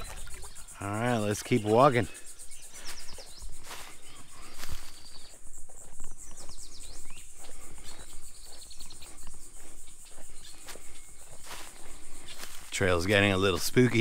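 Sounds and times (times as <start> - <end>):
bird chirping: 0.0 - 14.0
pulsing insect chorus: 0.0 - 14.0
footsteps on a trail: 1.3 - 14.0.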